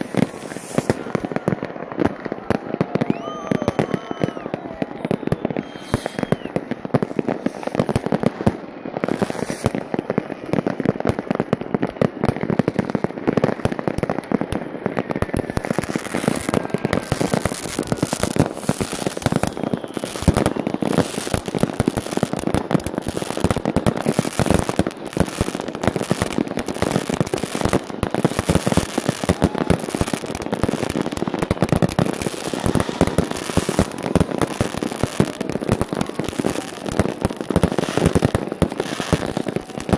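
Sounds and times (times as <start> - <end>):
faint firework whistling: 0.0 - 10.1, 14.1 - 39.9
fireworks bangs and crackling: 0.0 - 39.9.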